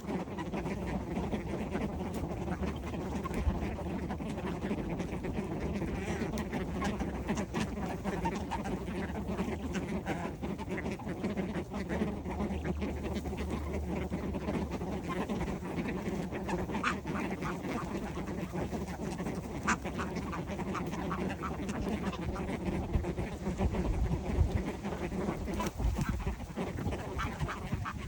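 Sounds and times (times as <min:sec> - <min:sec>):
ducks quacking: 0:00.0 - 0:28.0.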